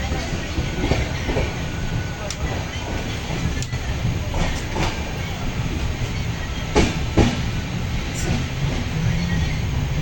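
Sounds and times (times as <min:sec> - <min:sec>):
wheels clacking over rail joint: 0:00.0 - 0:09.5
train wheels rumbling on track: 0:00.0 - 0:10.0.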